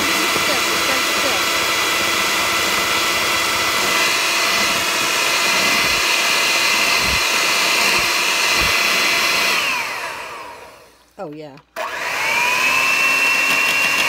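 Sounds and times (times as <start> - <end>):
electric hand mixer whining: 0.0 - 11.1, 11.8 - 14.0.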